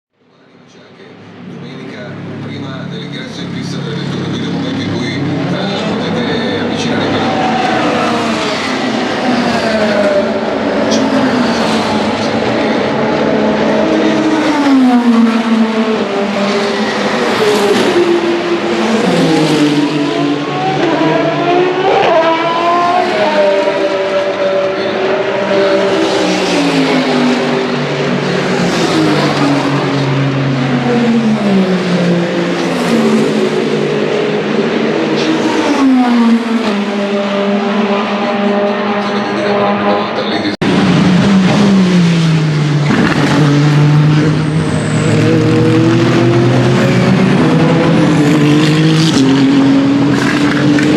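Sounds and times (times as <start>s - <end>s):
race car engines downshifting: 0.2s - 50.9s
race car engine revving: 0.6s - 50.9s.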